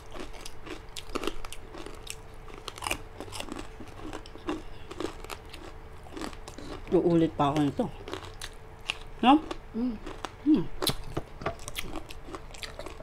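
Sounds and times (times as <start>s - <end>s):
faint steady hum: 0.0s - 13.0s
people crunching crispy food: 0.0s - 13.0s.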